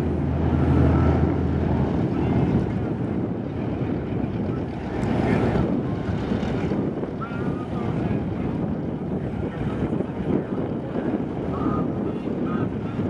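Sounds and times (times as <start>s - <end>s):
wind buffeting microphone: 0.0s - 13.0s
faint voices: 1.8s - 13.0s.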